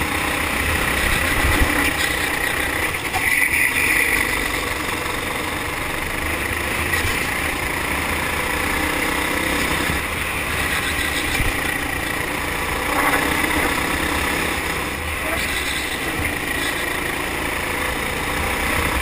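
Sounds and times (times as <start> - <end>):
kart engine under throttle: 0.0 - 19.0.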